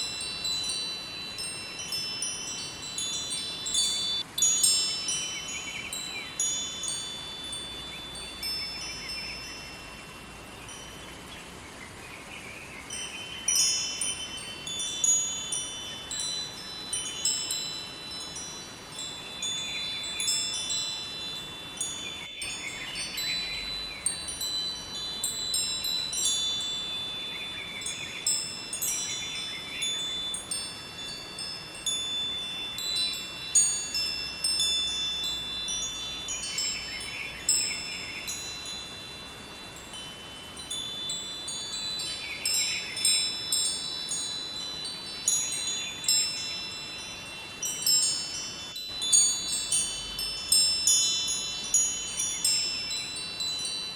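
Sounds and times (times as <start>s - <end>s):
faint steady hiss: 0.0s - 53.9s
wind chimes ringing: 0.0s - 53.9s.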